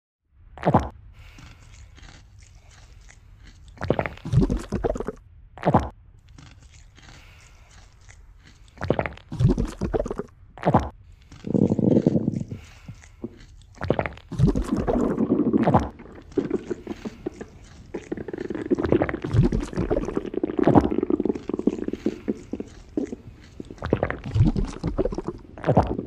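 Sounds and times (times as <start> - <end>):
stomach rumbling: 0.5 - 26.0.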